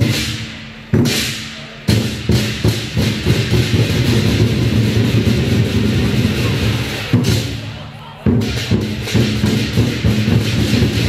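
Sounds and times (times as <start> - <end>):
cymbal crashes: 0.0 - 11.0
drum beat: 0.0 - 11.0.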